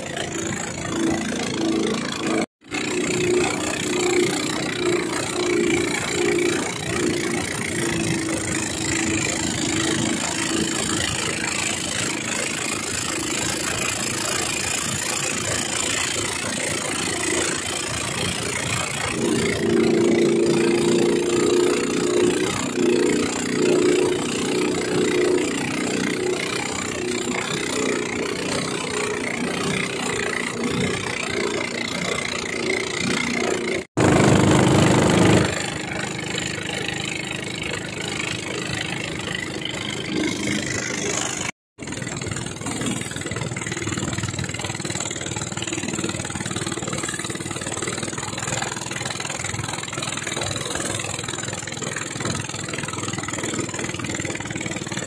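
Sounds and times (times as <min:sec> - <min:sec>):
racing boat engines drone: 0:00.0 - 0:55.0.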